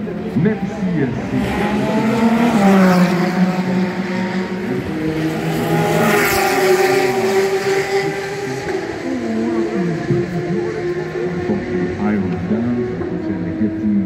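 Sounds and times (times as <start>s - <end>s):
race cars passing at speed: 0.0s - 14.0s.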